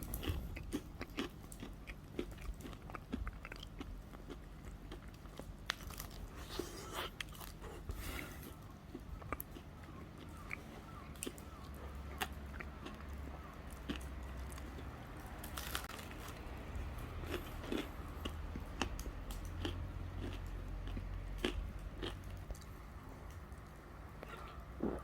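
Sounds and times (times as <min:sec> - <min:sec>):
person crunching and chewing: 0:00.0 - 0:25.0
steady low hum: 0:00.0 - 0:25.0.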